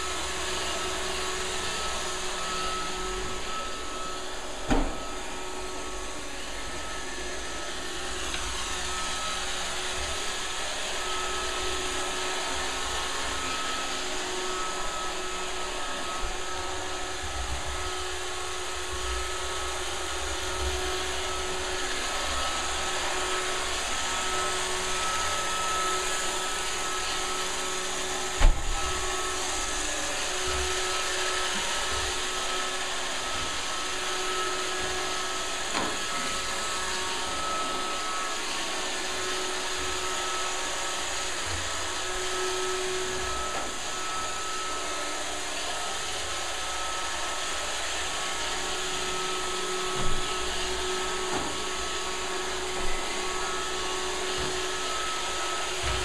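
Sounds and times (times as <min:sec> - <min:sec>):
robot vacuum whirring: 0:00.0 - 0:56.0.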